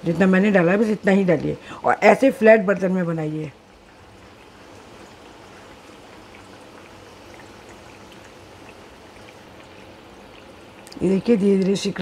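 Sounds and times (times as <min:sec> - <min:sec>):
batter sizzling in hot oil: 0:02.2 - 0:12.0.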